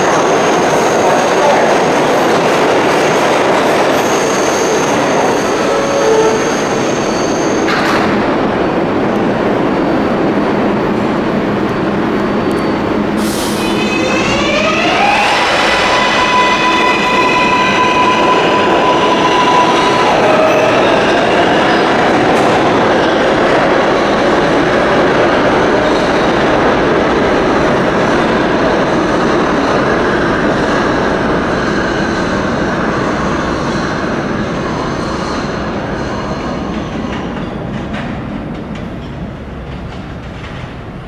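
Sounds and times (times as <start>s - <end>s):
subway train wheels rumbling: 0.0s - 41.0s.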